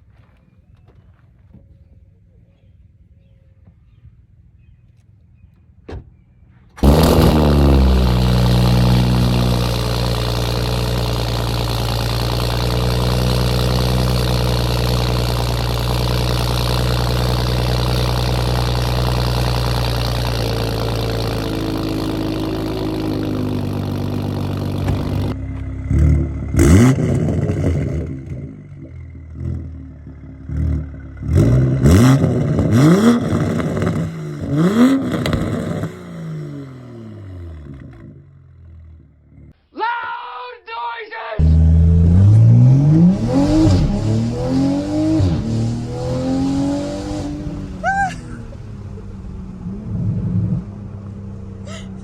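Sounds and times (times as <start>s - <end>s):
car engine idling and revving: 3.2s - 39.6s, 41.4s - 52.0s.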